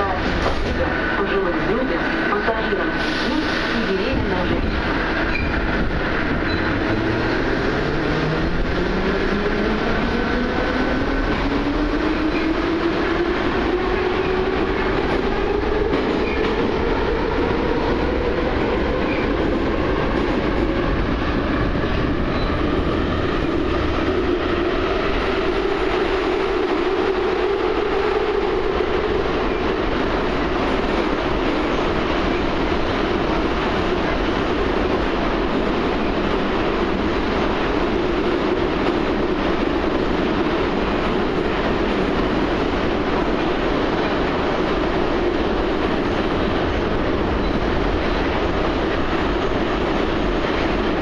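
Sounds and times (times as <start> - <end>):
wheels rumbling on rails: 0.0 - 51.0.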